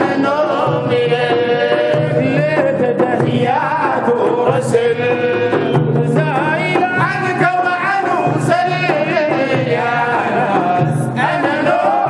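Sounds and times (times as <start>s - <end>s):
men singing praise song: 0.0s - 12.0s
steady drum beat: 0.0s - 12.0s.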